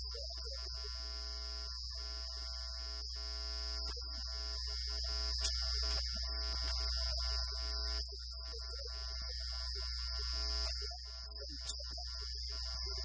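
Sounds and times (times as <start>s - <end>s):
buzzy electronic tones: 0.0s - 13.0s.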